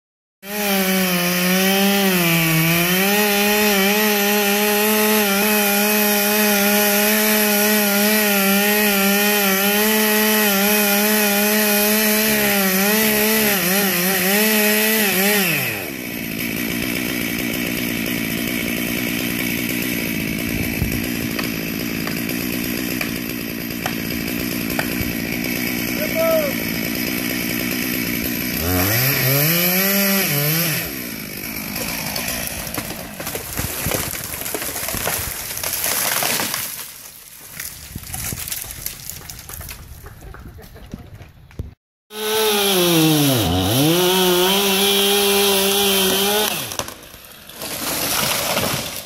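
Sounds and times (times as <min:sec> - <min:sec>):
chainsaw cutting wood: 0:00.4 - 0:40.6, 0:41.5 - 0:49.0.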